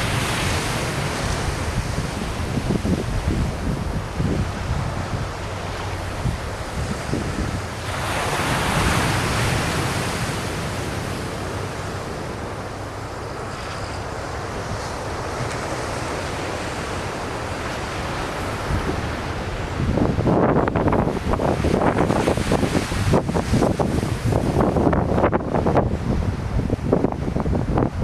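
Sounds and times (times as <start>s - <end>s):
ocean surf breaking: 0.0s - 28.0s
wind rumbling on microphone: 0.0s - 28.0s.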